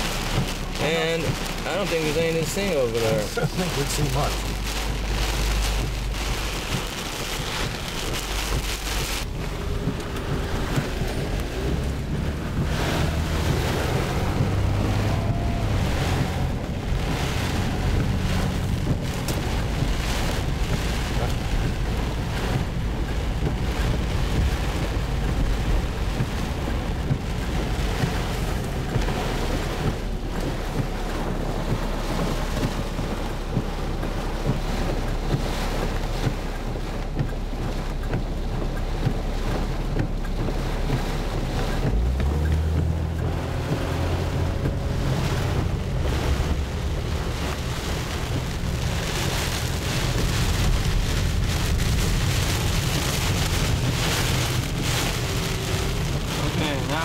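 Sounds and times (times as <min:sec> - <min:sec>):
heavy rain on a car: 0:00.0 - 0:57.0
road and engine rumble: 0:00.0 - 0:57.0
gusting wind: 0:03.6 - 0:57.0.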